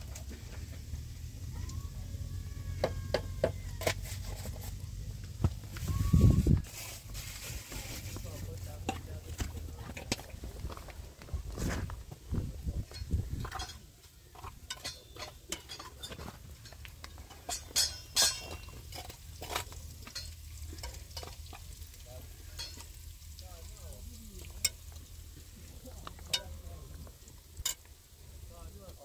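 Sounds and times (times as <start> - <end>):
low steady rumble: 0.0 - 29.0.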